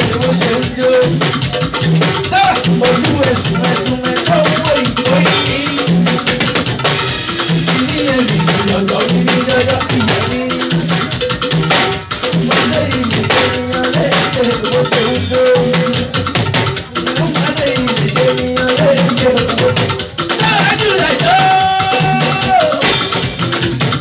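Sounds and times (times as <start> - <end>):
man singing into a microphone: 0.0 - 1.6, 2.3 - 6.6, 7.2 - 11.3, 12.2 - 23.0
live band music: 0.0 - 24.0.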